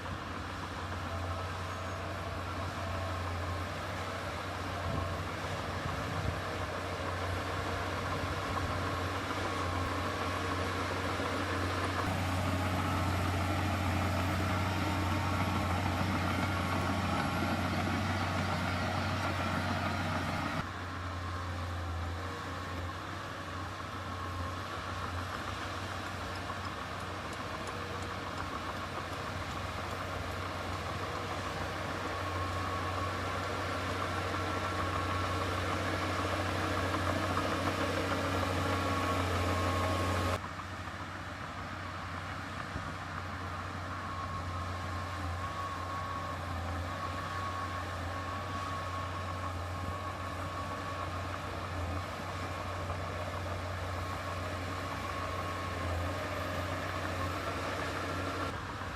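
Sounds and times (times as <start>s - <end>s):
diesel engine low drone: 0.0s - 58.9s.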